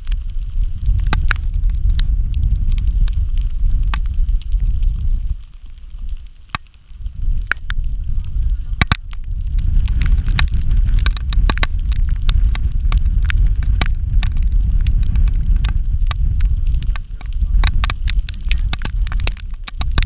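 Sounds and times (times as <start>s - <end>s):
sharp crackles and clicks: 0.0s - 20.0s
wind buffeting microphone: 0.0s - 20.0s.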